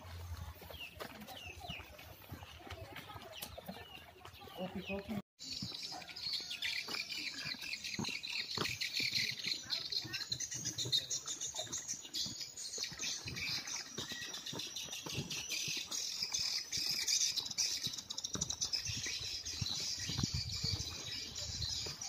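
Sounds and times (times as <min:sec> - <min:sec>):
birds and insects chirping: 0:00.0 - 0:22.0.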